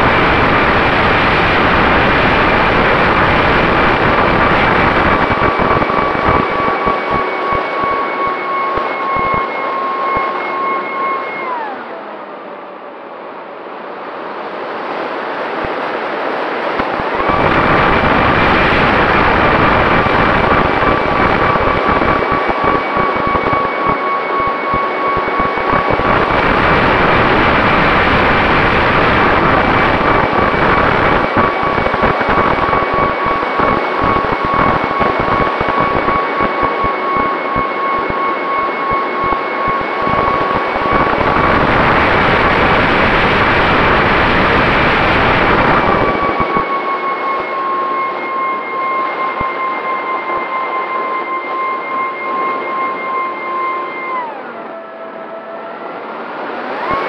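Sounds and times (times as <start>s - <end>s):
propeller and wind noise: 0.0s - 11.8s, 13.4s - 57.0s
drone motors high whine: 0.0s - 57.0s.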